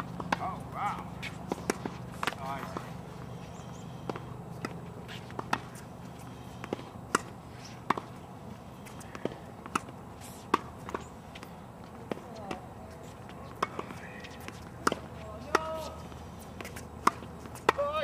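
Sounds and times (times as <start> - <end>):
racket hitting tennis ball: 0.0 - 18.0
tennis ball bouncing on court: 0.0 - 18.0.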